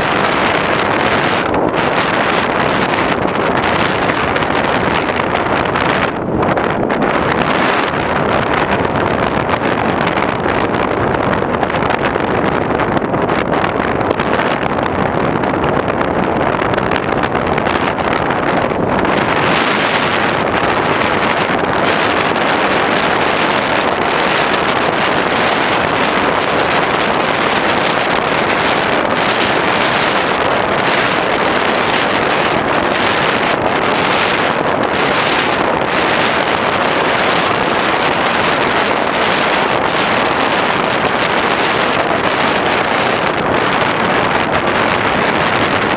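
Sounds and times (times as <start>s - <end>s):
wind rushing: 0.0s - 45.9s.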